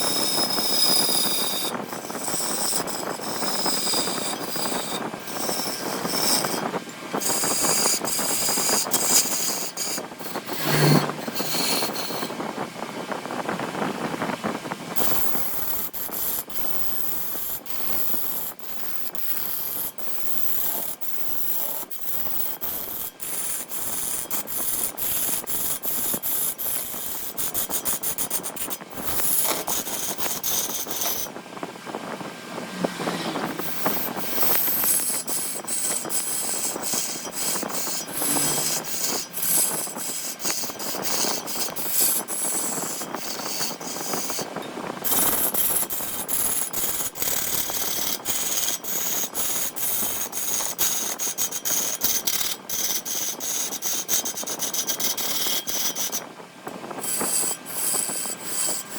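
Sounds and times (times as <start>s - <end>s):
lathe tool scraping wood: 0.0s - 12.6s, 14.9s - 31.4s, 32.7s - 58.9s.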